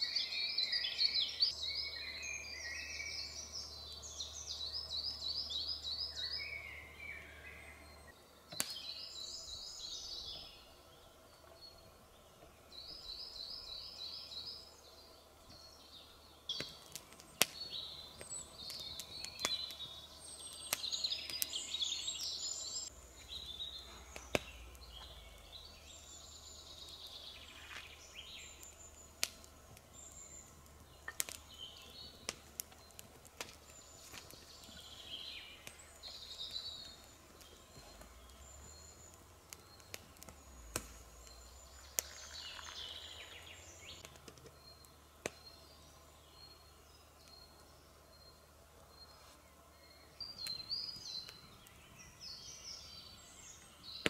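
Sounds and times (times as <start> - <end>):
birds chirping and singing: 0.0 - 54.0
log fire crackling: 0.0 - 54.0.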